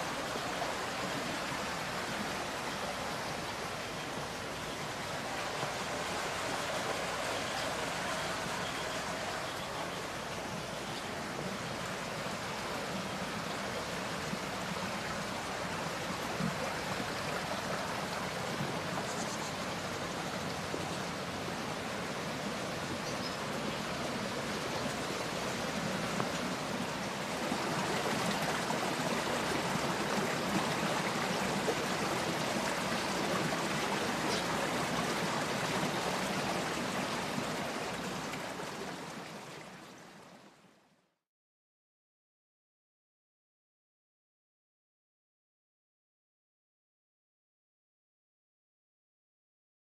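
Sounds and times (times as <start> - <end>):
flowing water rushing: 0.0 - 41.0.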